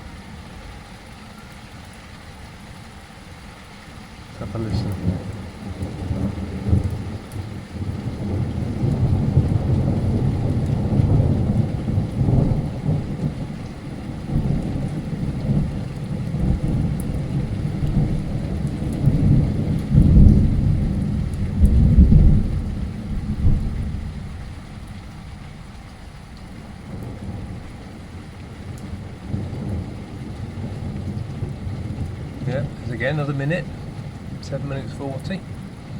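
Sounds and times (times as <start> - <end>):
heavy rain: 0.0 - 35.9
thunder rumbling: 4.3 - 35.9.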